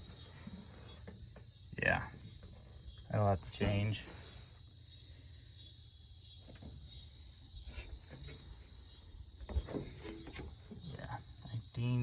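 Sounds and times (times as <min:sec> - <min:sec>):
high insect chorus: 0:00.0 - 0:12.0.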